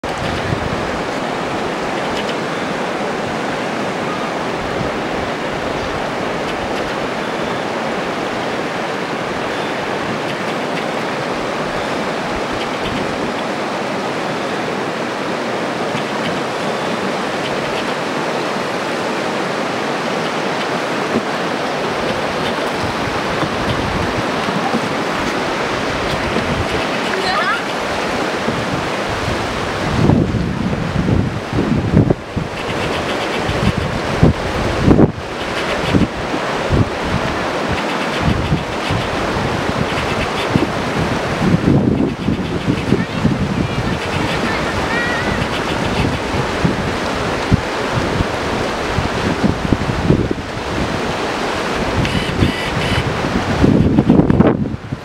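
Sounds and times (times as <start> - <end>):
river rapids roaring: 0.0 - 55.0.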